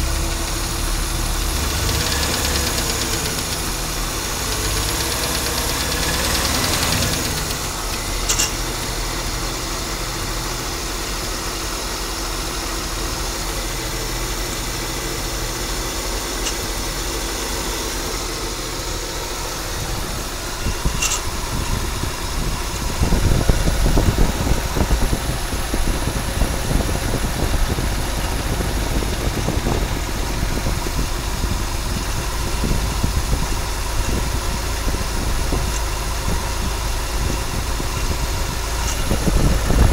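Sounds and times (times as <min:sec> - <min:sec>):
engine idling with grinding: 0:00.0 - 0:39.9.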